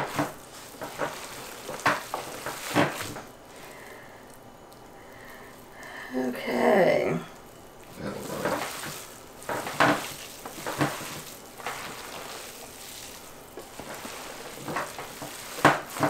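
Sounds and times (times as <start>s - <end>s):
hands kneading wet meat mix: 0.0s - 16.0s.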